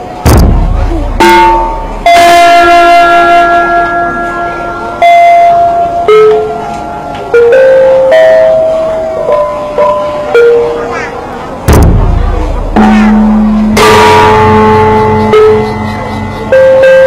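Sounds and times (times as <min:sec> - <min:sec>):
bronze gongs ringing: 0:00.0 - 0:17.0.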